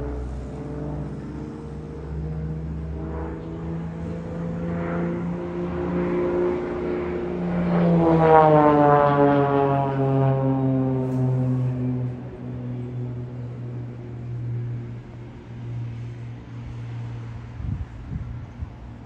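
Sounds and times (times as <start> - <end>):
propeller plane flying overhead: 0.0 - 19.0.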